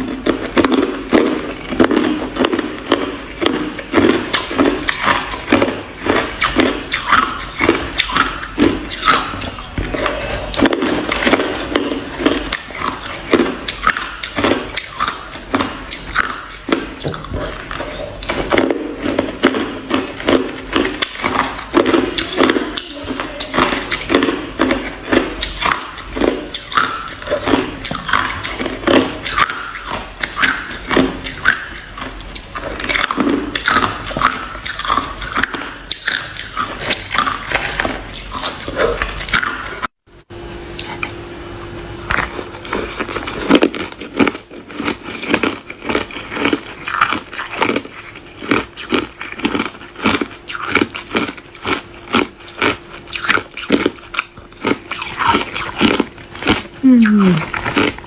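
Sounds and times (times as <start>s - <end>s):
ice being chewed: 0.0s - 39.9s, 40.8s - 58.0s.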